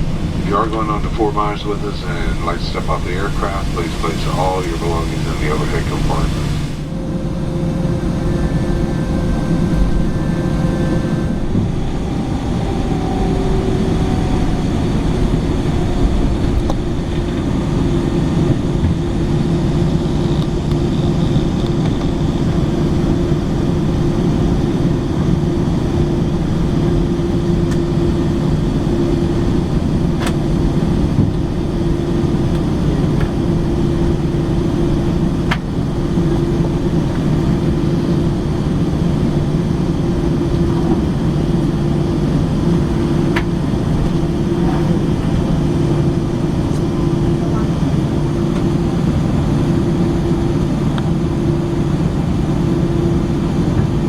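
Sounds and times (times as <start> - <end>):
aircraft cabin rumble: 0.0 - 54.0.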